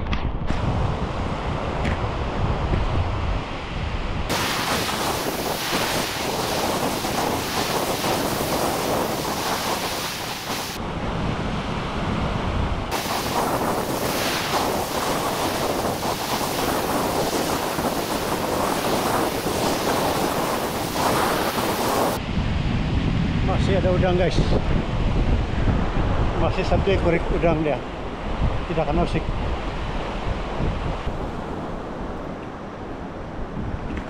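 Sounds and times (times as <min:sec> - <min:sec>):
wind buffeting microphone: 0:00.0 - 0:34.0
surf breaking on sandy beach: 0:00.3 - 0:34.0.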